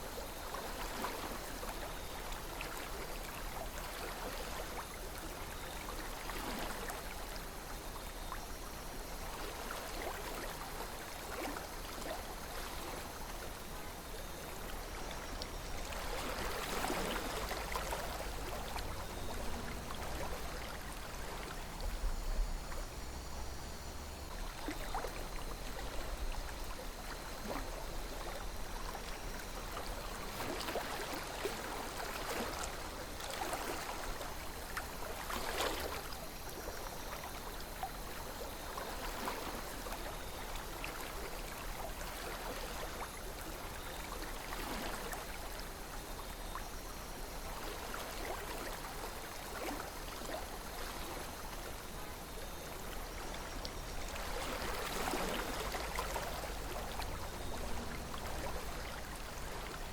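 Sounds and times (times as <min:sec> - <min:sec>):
river flowing: 0:08.6 - 0:59.9.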